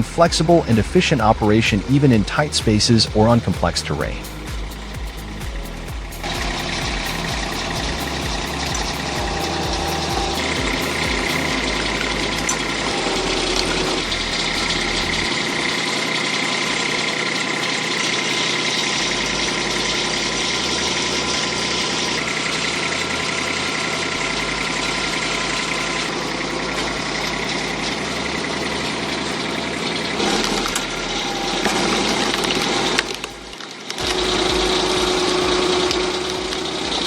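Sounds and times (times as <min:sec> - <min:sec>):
machinery engine running: 0:00.0 - 0:37.0.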